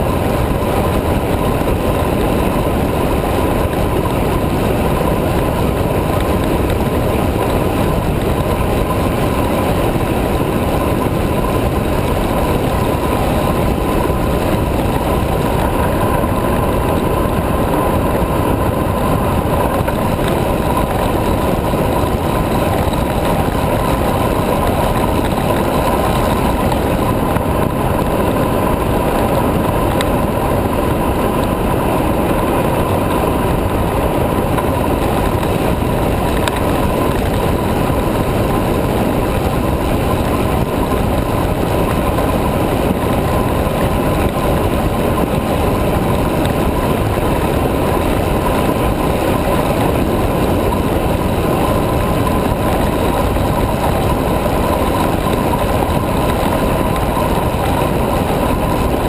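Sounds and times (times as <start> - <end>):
wind rush on microphone: 0.0 - 59.0.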